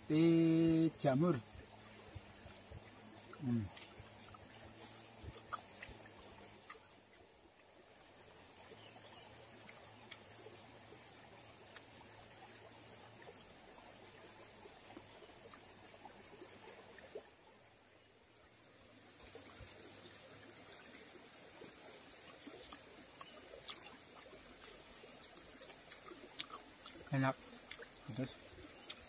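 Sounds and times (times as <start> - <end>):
river trickling over rocks: 0.0 - 29.0.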